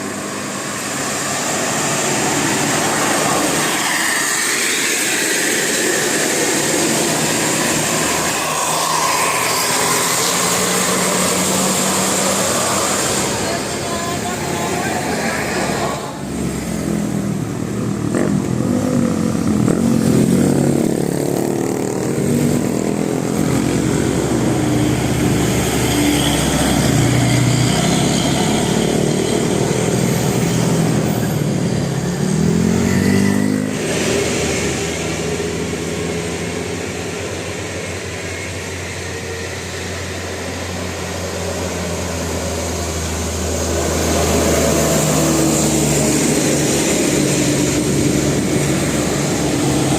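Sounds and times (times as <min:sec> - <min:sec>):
low engine drone: 0:00.0 - 0:49.9
vehicles passing by: 0:00.0 - 0:49.9.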